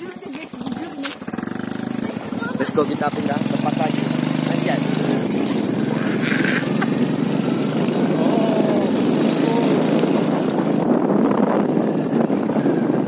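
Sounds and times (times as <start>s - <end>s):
small motorbike engine: 0.0s - 13.0s
wind rumbling on microphone: 1.2s - 13.0s.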